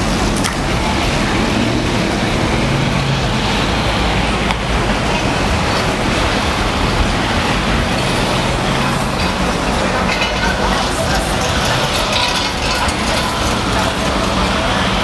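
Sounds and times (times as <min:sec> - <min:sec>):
crowded hall din: 0:00.0 - 0:15.0.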